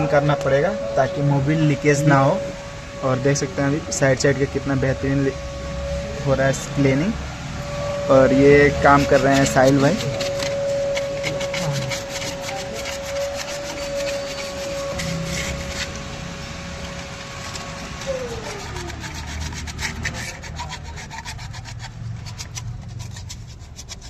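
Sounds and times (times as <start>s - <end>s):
steady whine: 0.0s - 20.8s
hand scraping and rubbing: 4.6s - 24.0s.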